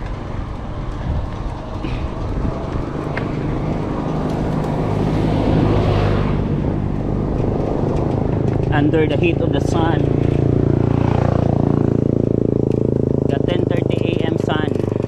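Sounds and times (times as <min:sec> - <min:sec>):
car engine approaching: 0:00.0 - 0:15.0
low road rumble: 0:00.0 - 0:15.0.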